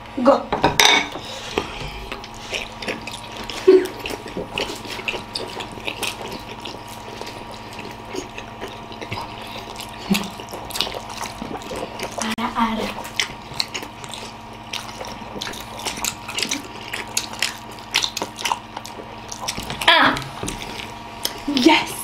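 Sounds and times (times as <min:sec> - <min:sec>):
wet chewing and squelching: 0:01.2 - 0:21.7.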